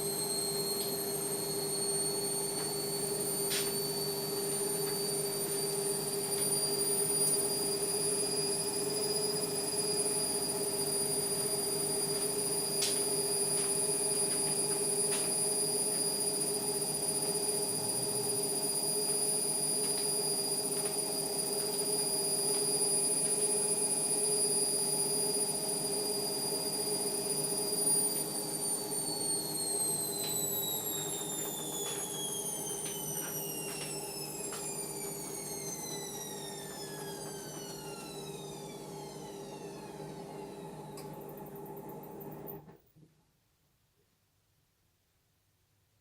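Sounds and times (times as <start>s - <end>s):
washing machine drum spinning: 0.0s - 42.0s.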